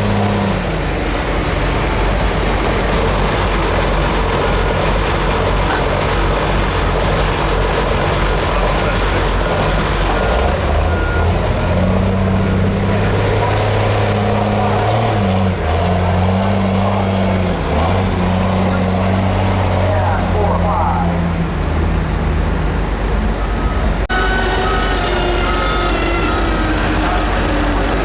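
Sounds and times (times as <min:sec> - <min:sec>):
tractor diesel engine roaring: 0:00.0 - 0:28.0.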